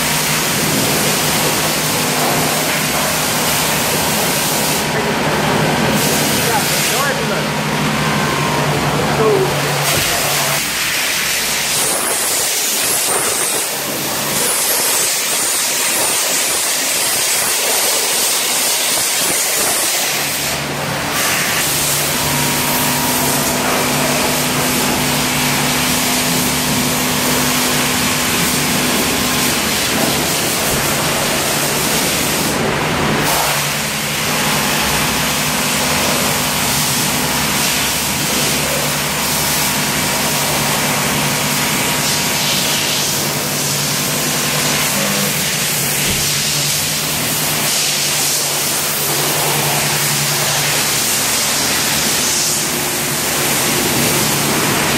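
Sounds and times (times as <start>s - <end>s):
motor hum with tones: 0.0s - 54.9s.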